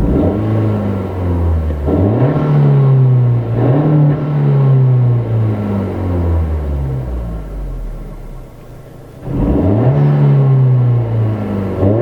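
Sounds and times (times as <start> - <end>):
car engine revving: 0.0 - 8.4, 9.2 - 12.0.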